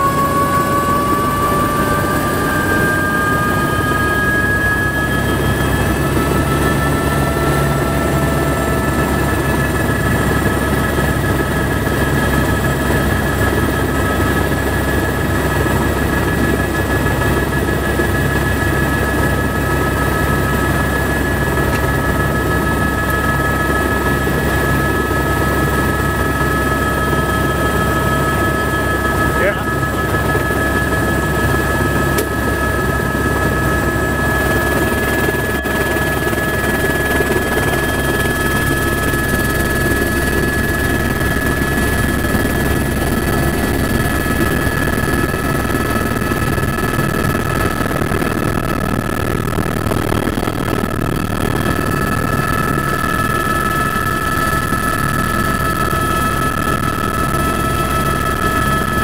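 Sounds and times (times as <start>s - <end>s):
helicopter engine and rotor: 0.0s - 59.0s
high turbine whine: 0.0s - 59.0s.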